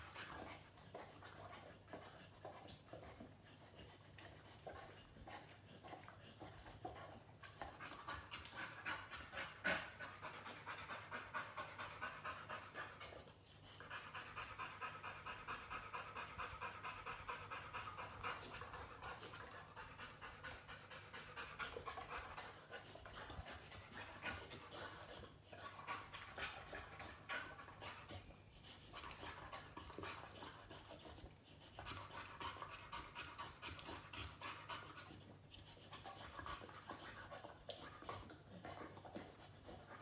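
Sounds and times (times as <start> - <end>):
dog panting rapidly: 0.0 - 40.0.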